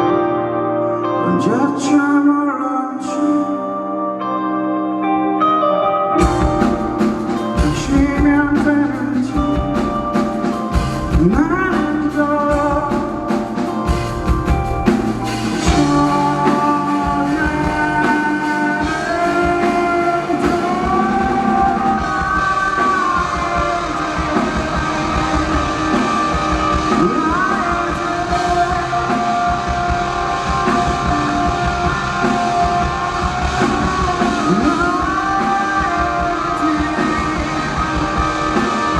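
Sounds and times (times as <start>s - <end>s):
rock band playing live: 0.0s - 38.9s
electric guitar bending lines: 5.0s - 38.9s.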